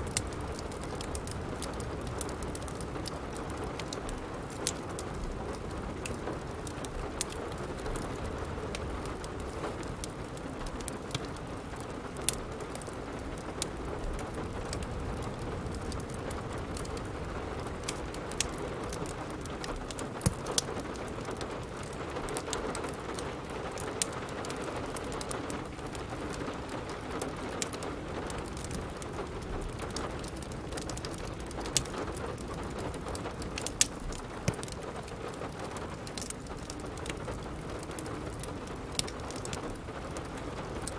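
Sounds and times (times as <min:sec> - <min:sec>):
steady rain falling: 0:00.0 - 0:40.9
wood fire crackling and popping: 0:00.0 - 0:40.9.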